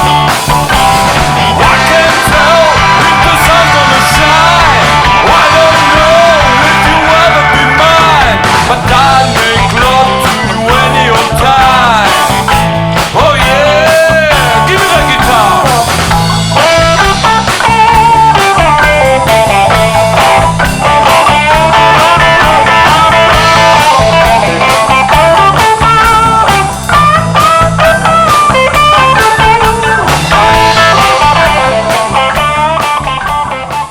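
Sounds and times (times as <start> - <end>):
blues-rock band playing: 0.0 - 33.9
guitar lead with bent notes: 0.0 - 33.9.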